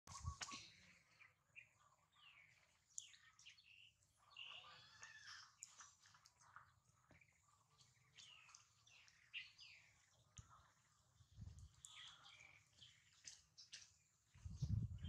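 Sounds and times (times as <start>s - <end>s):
faint birds chirping: 0.1s - 15.0s.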